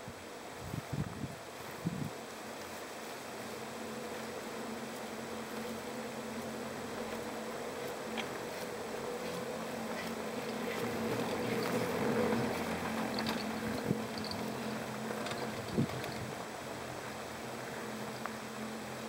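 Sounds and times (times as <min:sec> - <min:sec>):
chairlift low hum: 0:00.0 - 0:19.0.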